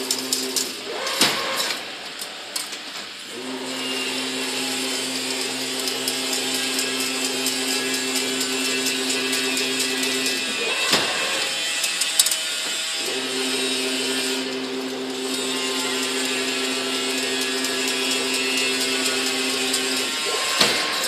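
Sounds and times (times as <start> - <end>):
machine humming and rattling: 0.0 - 21.0.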